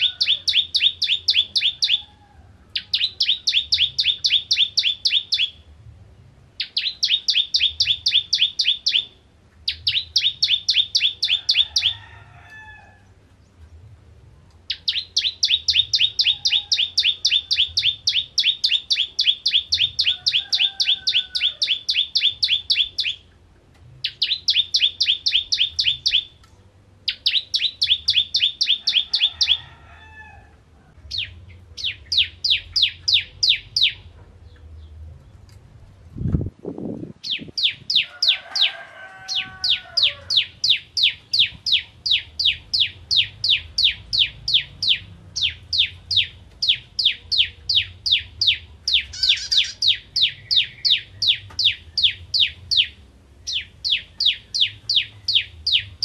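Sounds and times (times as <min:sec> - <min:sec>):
bird singing fast trills: 0:00.0 - 0:02.1, 0:02.7 - 0:05.7, 0:06.6 - 0:12.0, 0:14.7 - 0:23.3, 0:24.0 - 0:26.4, 0:27.1 - 0:29.6, 0:31.1 - 0:34.1, 0:37.2 - 0:38.7, 0:39.3 - 0:56.0.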